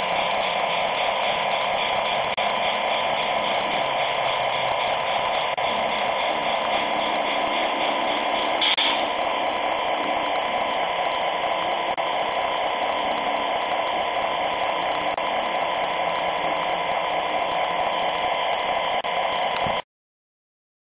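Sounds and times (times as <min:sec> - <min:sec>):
model locomotive whirring hiss: 0:00.0 - 0:19.8.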